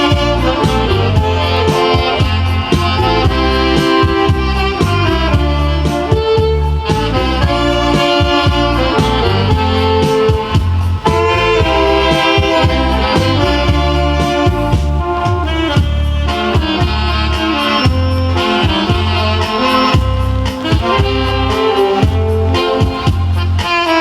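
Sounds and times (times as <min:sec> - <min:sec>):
backing track with bass line: 0:00.0 - 0:24.0
saxophone melody: 0:00.0 - 0:24.0.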